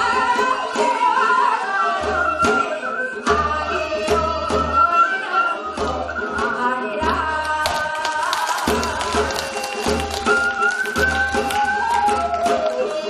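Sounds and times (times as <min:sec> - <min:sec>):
instrumental accompaniment: 0:00.0 - 0:13.0
women singing folk song: 0:00.0 - 0:13.0.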